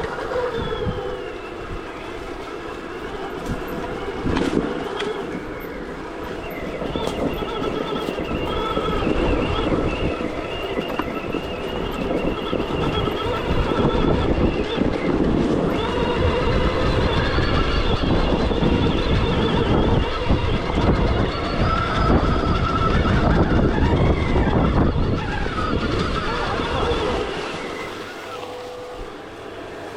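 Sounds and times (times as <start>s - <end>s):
electric motor whine: 0.0s - 29.9s
steady rumble: 0.0s - 29.9s.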